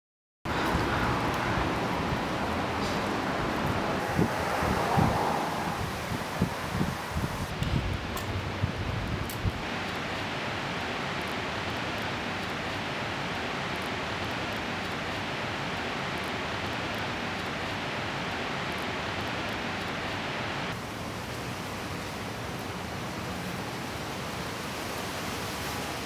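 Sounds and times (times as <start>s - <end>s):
steady background hiss: 1.4s - 26.0s.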